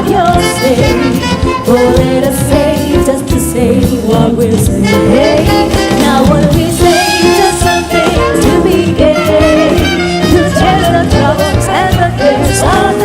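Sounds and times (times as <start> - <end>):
jazz band playing: 0.0 - 13.0.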